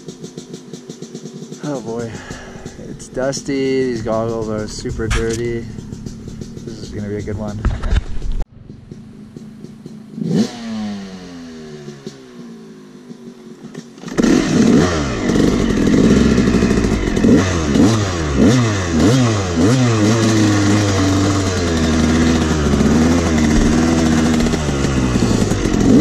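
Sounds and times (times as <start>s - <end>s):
two-stroke dirt bike revving: 0.0s - 7.7s, 8.7s - 26.0s.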